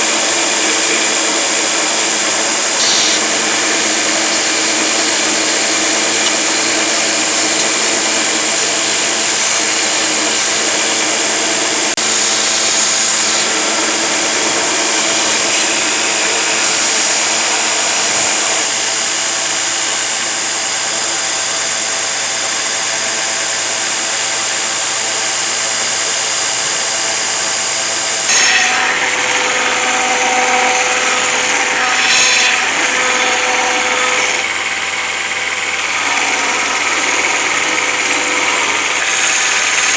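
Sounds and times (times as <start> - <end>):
electric power tool running: 0.0 - 39.9.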